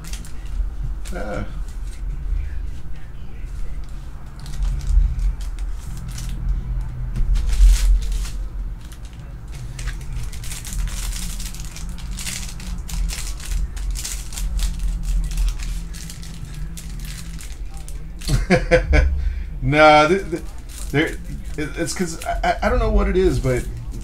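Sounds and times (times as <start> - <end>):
foil wrapper crinkling: 0.0 - 18.6, 19.9 - 24.0
steady low hum: 0.0 - 24.0.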